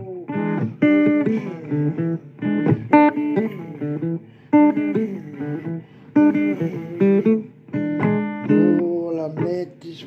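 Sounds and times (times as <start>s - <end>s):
blues guitar playing: 0.0s - 10.0s.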